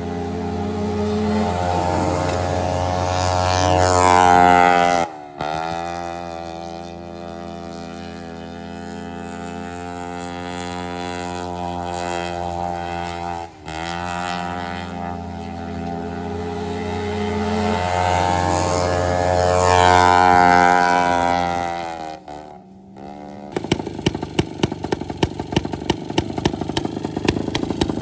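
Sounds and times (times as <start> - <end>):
riding lawn mower engine: 0.0 - 28.0.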